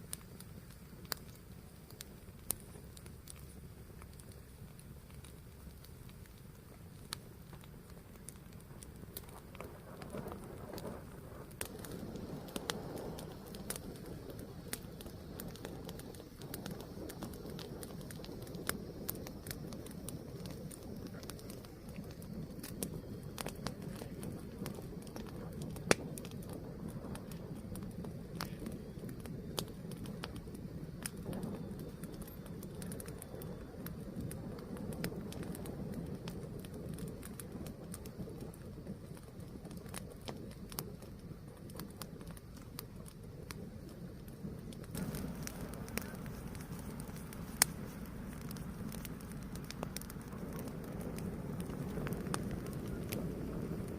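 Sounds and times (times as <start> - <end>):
burning wood crackling and popping: 0.0 - 53.9
low rush of flames: 0.0 - 53.9.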